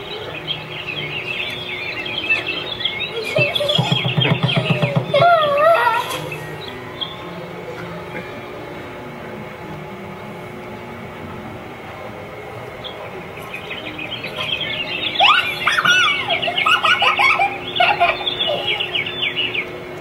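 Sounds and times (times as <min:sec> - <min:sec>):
birdsong chirps and whistles: 0:00.0 - 0:11.0, 0:11.7 - 0:20.0
steady low hum: 0:00.0 - 0:20.0.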